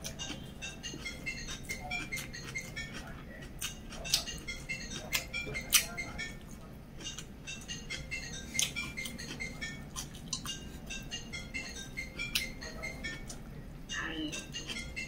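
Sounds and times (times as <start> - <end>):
person chewing: 0.0 - 13.6, 14.2 - 15.0
music: 0.0 - 15.0.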